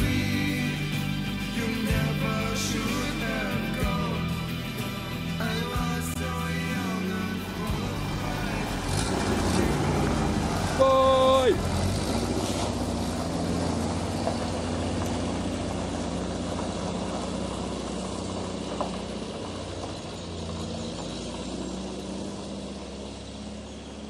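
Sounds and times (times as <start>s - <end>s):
van engine pulling away: 0.0s - 24.0s.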